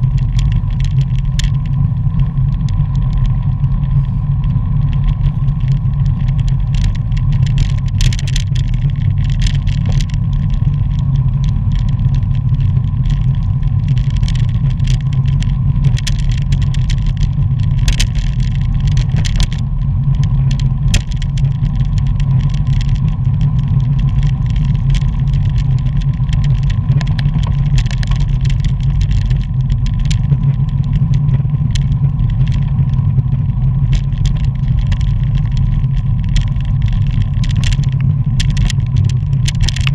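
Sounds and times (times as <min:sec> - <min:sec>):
bike clicks and rattles: 0:00.0 - 0:39.9
wind buffeting microphone: 0:00.0 - 0:39.9.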